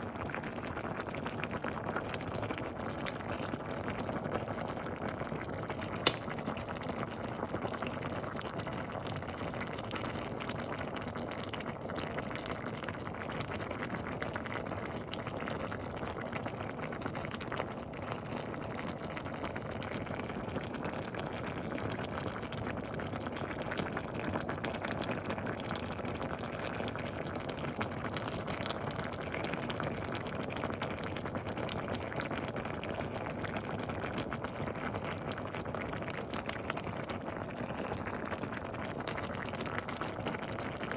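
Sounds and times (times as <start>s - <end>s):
pot of beans boiling: 0.0s - 40.9s.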